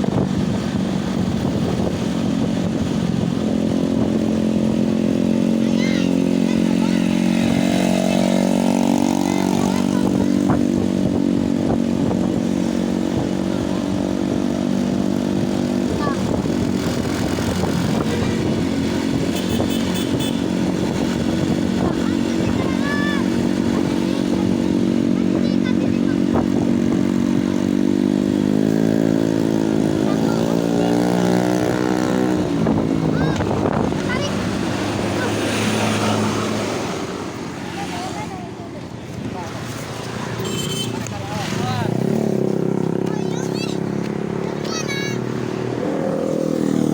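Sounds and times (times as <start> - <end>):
motorcycle engine: 0.0 - 46.9
road vehicle engines droning: 0.0 - 46.9.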